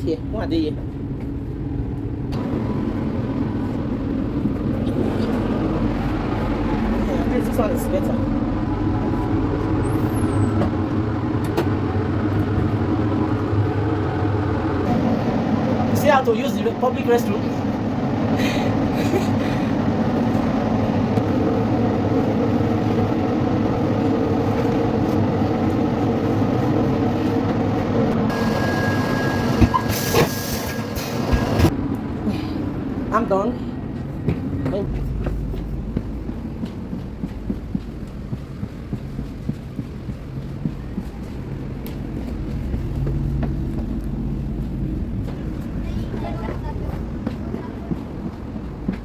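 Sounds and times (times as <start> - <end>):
train rumble from inside: 0.0 - 49.0.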